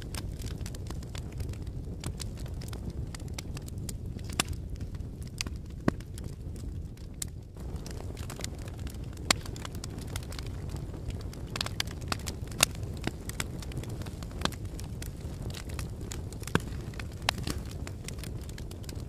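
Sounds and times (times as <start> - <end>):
fire crackling in fireplace: 0.0 - 19.0.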